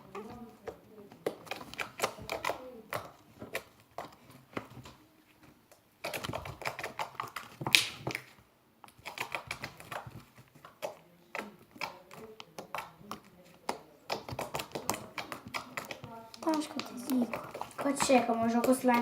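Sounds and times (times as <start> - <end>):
slime squished by hand: 0.0 - 19.0.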